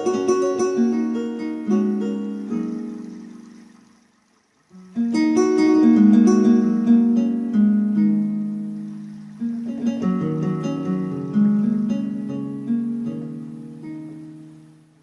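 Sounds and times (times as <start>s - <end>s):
plucked guitar-like notes: 0.0s - 3.7s, 4.8s - 14.9s.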